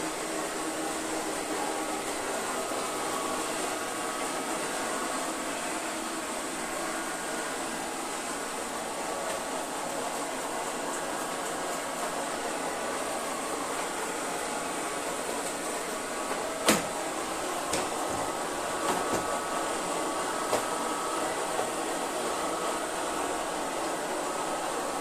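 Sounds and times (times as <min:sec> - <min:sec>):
robot vacuum cleaner whirring: 0:00.0 - 0:25.0.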